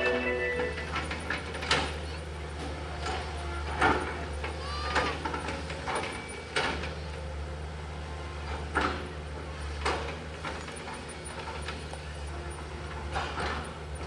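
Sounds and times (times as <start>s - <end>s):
excavator diesel engine droning: 0.0s - 14.0s.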